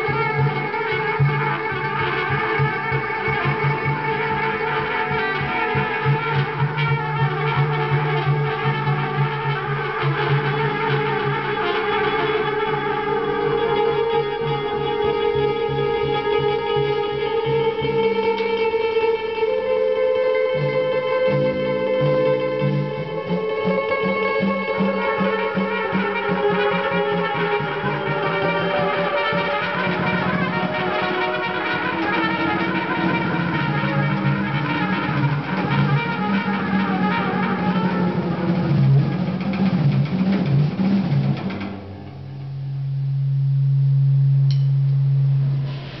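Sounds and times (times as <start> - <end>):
drums: 0.0 - 18.6, 20.6 - 46.0
trumpet: 0.0 - 42.8, 43.9 - 46.0
electric guitar: 0.0 - 42.9.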